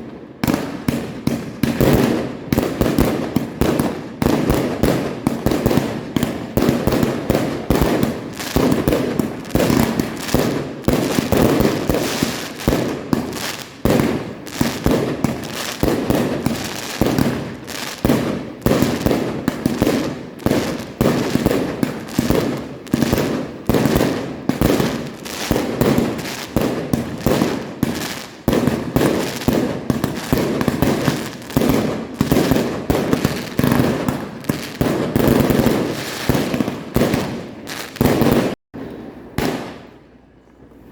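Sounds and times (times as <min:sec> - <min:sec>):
fireworks launching and banging: 0:00.0 - 0:40.0.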